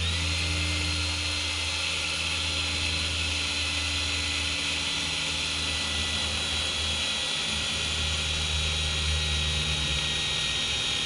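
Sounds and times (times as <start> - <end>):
cordless drill motor whining: 0.0 - 11.0.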